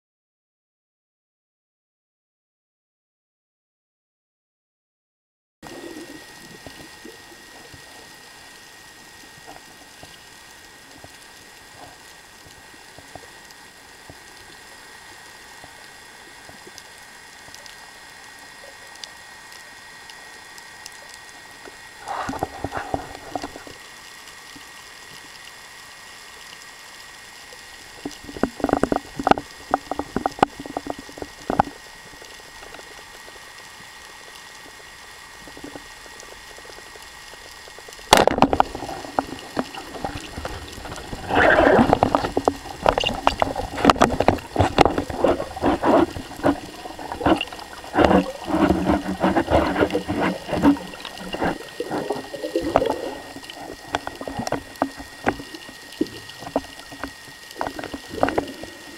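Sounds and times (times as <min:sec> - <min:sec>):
faint underwater hiss: 0:05.6 - 0:58.9
thin steady whine: 0:05.6 - 0:58.9
crackling and clicking: 0:05.7 - 0:58.9.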